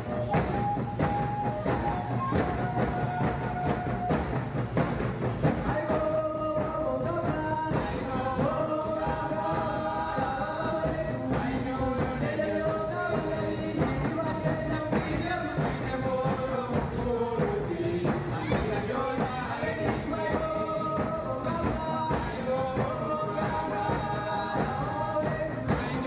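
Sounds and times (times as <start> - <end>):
music with steady beat and singing: 0.0 - 26.0.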